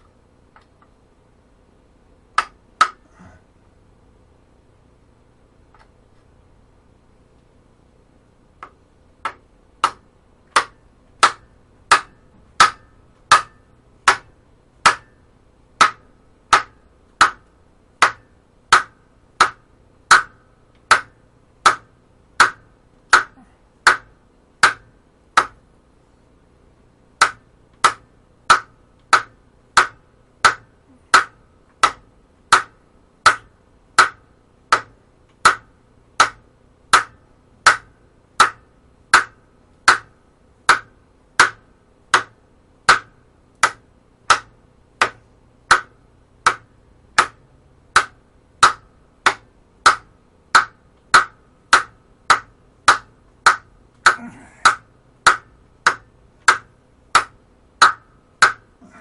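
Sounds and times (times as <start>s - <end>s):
rubber mallet tapping on metal: 2.3s - 3.4s, 8.6s - 25.7s, 27.2s - 59.0s.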